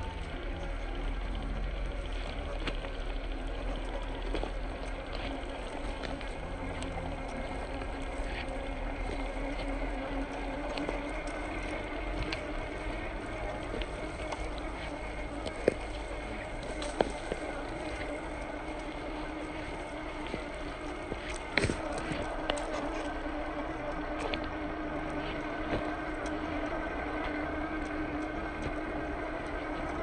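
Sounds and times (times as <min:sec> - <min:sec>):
electric motor and gears whirring: 0:00.0 - 0:30.0
leaves and twigs crackling: 0:00.0 - 0:30.0.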